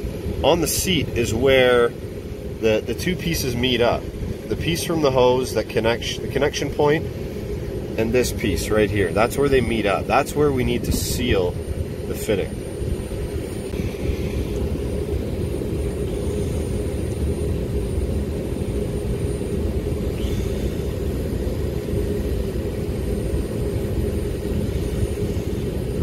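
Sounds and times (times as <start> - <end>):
air conditioning machinery hum: 0.0 - 26.0.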